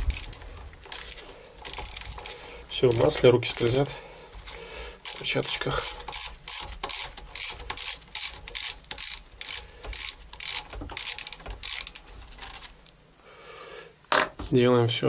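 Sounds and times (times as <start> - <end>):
hand ratchet clicking: 0.0 - 12.7.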